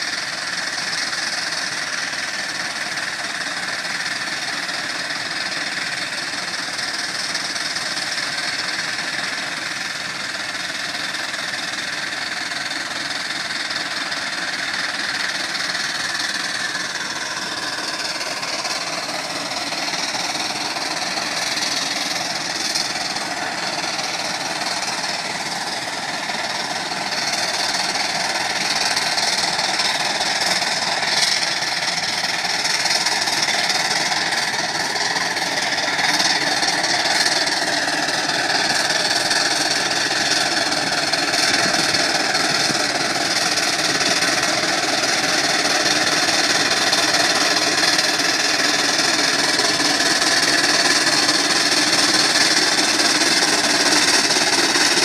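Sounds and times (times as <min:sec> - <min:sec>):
steam engine exhaust chuffing: 0:00.0 - 0:55.0.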